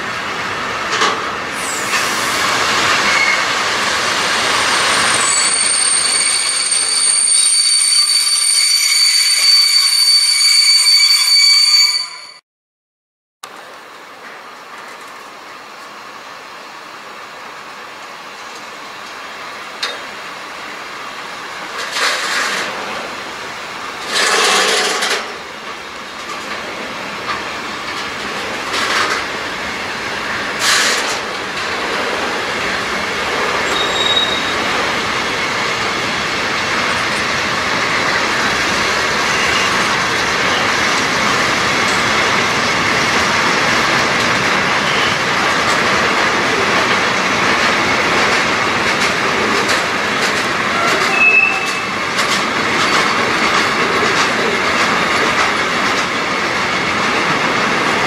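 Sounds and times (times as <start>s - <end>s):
freight train rolling past: 0.0s - 12.4s, 13.5s - 58.0s
wheels screeching on rails: 0.9s - 12.4s, 21.6s - 58.0s.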